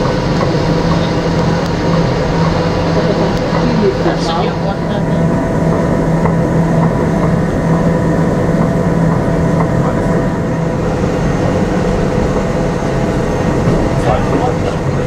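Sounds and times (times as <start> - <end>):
low hum: 0.0 - 15.0
train rolling noise: 0.0 - 15.0.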